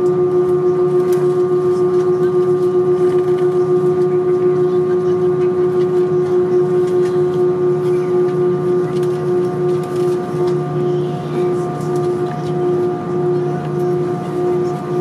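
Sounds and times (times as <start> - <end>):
jet engines whining in cabin: 0.0 - 15.0.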